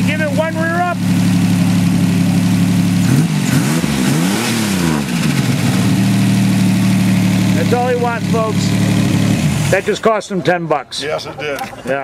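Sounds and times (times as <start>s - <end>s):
car engine idling and revving: 0.0s - 10.8s.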